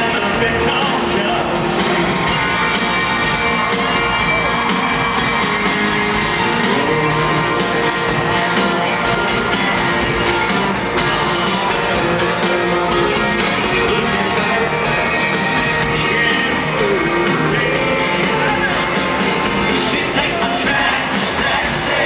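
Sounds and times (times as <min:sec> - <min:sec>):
country band playing amplified: 0:00.0 - 0:22.0
stadium crowd: 0:00.0 - 0:22.0.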